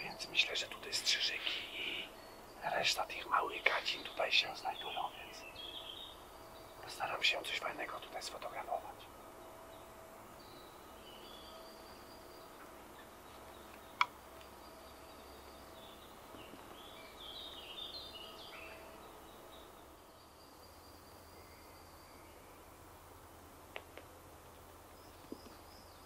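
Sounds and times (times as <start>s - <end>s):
songbirds twittering: 0.0s - 26.0s.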